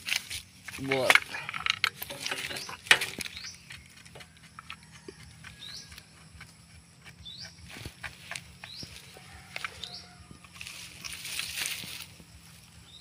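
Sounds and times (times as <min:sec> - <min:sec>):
bird chirping: 0:00.3 - 0:13.0.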